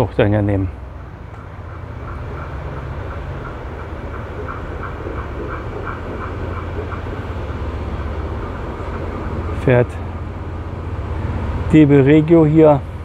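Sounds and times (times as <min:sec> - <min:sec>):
diesel railcar engine hum: 0:00.0 - 0:13.0.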